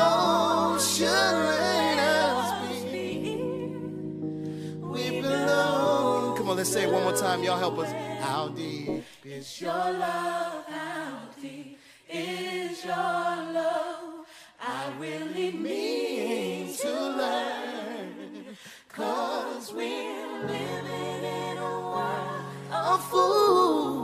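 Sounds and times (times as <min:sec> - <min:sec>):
sung vocals: 0:00.0 - 0:24.0.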